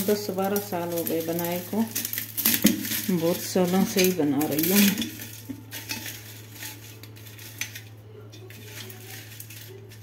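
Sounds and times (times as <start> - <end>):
grass sticks tapping metal pot: 0.0 - 10.0.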